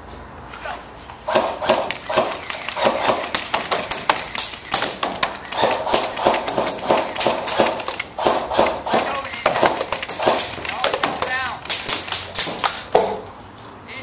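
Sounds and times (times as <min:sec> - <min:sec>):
airsoft guns firing: 0:01.3 - 0:13.2.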